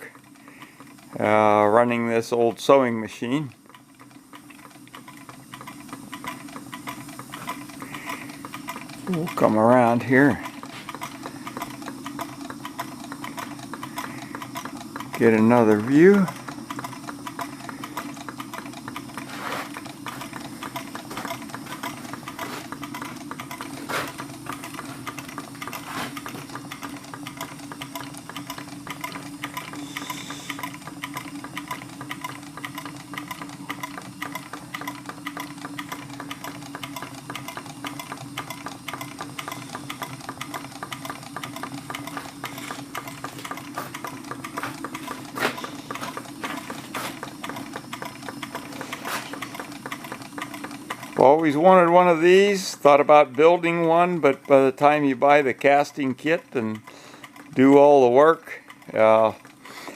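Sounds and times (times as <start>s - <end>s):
loud mechanical clicks: 0.0s - 59.9s
sewing machine clattering: 0.0s - 59.9s
hot air engine hum: 3.5s - 51.6s.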